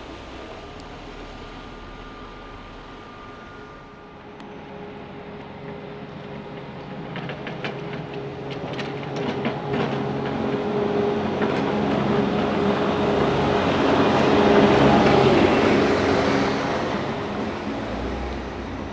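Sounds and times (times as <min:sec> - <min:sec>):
diesel loader engine running: 0:00.0 - 0:18.9.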